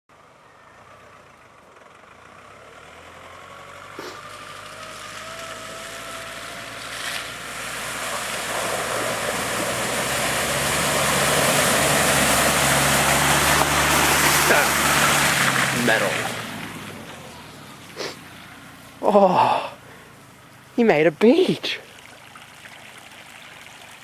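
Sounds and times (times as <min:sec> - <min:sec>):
vehicle engine running: 0:00.1 - 0:24.0
tyre and road noise: 0:00.2 - 0:24.0.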